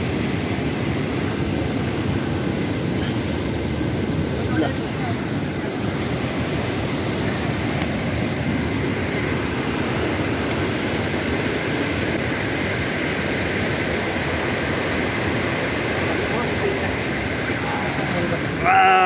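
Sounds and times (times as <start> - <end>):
river stream rushing: 0.0 - 19.0.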